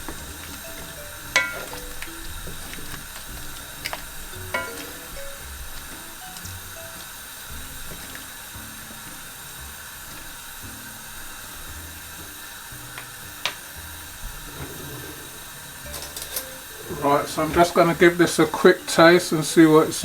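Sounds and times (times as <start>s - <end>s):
background music: 0.0s - 20.0s
curry bubbling in a pot: 0.0s - 20.0s.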